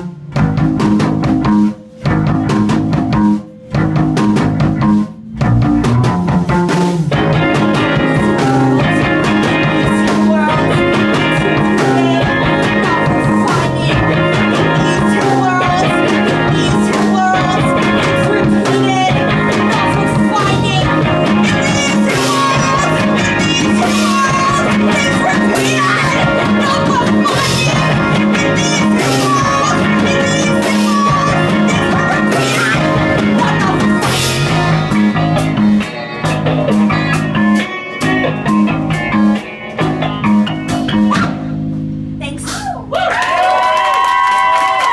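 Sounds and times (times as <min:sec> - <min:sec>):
rock band playing loudly: 0:00.0 - 0:42.9.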